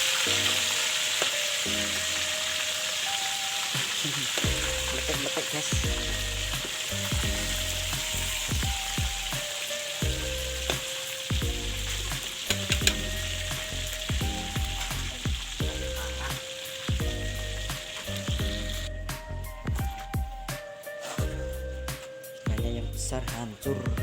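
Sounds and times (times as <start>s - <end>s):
fish sizzling in hot oil: 0.0s - 22.6s
background music with beat: 0.0s - 24.0s.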